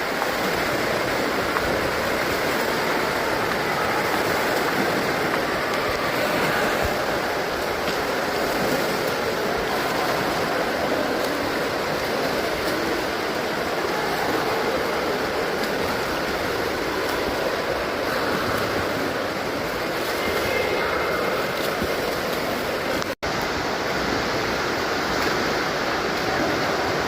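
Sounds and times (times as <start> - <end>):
pool water rushing and splashing: 0.0 - 27.0.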